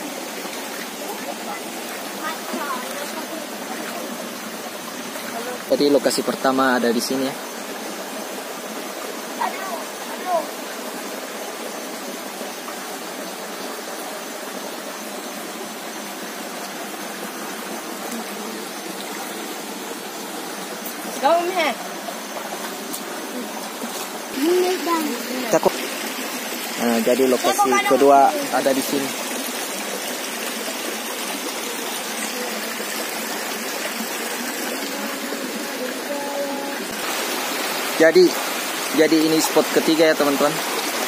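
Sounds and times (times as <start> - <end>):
stream rushing over stones: 0.0 - 41.0.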